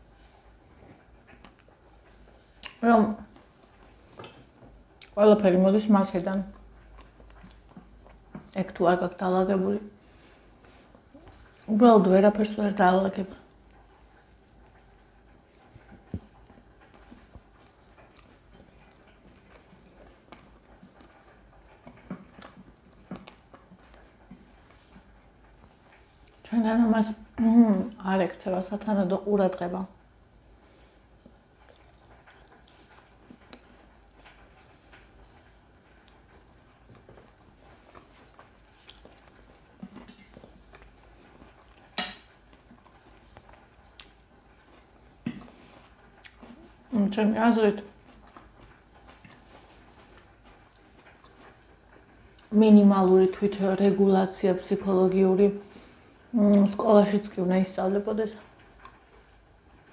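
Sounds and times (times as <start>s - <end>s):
soft chewing: 0.0s - 8.8s, 9.9s - 28.8s, 29.6s - 59.9s.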